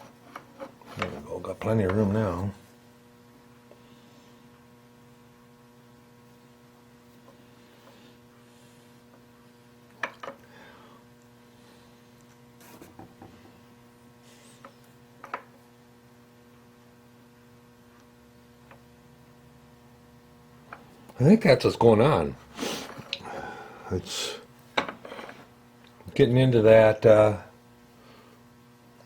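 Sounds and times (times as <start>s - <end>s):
faint electrical mains hum: 0.0s - 29.0s.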